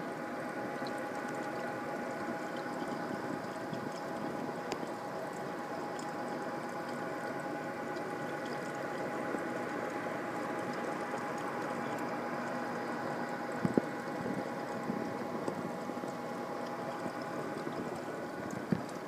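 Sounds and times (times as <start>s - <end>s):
bubbling and trickling water: 0.0s - 19.0s
pump and skimmer whining hum: 0.0s - 19.0s.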